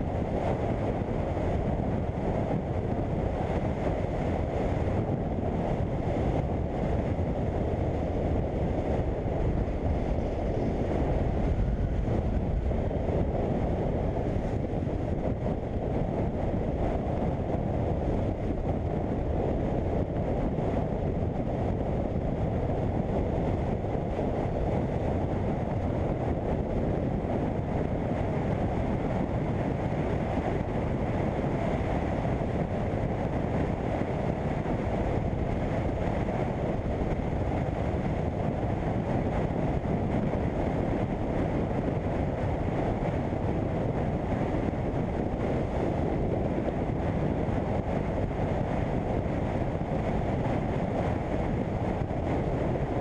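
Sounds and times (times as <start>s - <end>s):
wind rush over microphone: 0.0s - 53.0s.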